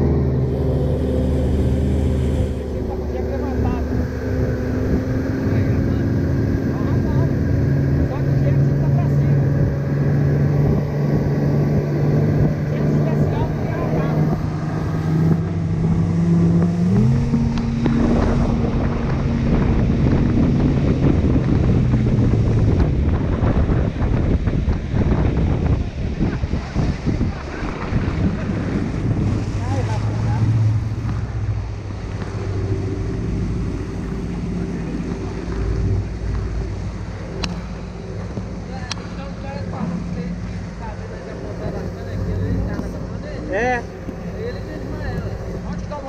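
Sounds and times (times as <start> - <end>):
outboard motor droning: 0.0 - 46.0
water rushing along hull: 0.0 - 46.0
wind buffeting microphone: 0.0 - 46.0.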